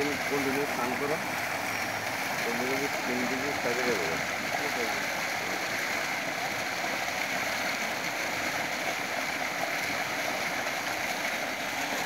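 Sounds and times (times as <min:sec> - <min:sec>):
water gushing from pipe: 0:00.0 - 0:12.0
water splashing into pool: 0:00.0 - 0:12.0.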